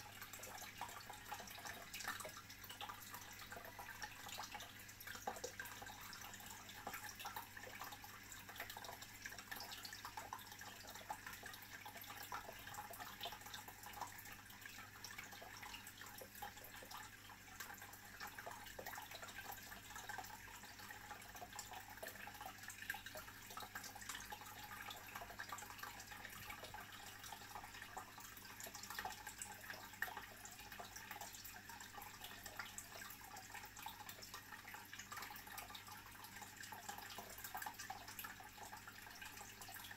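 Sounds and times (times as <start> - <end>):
low steady hum: 0.0 - 39.9
water trickling and bubbling: 0.0 - 39.9.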